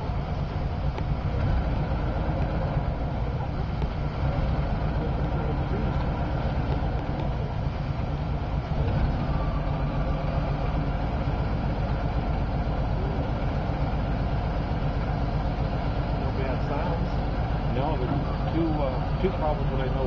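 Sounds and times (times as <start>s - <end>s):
truck engine running steadily: 0.0s - 20.0s.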